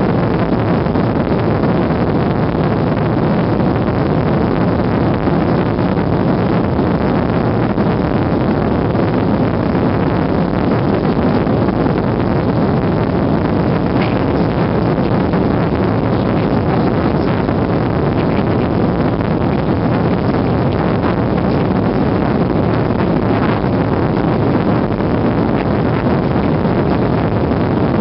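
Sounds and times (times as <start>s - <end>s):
jet engines roaring in cabin: 0.0s - 28.0s.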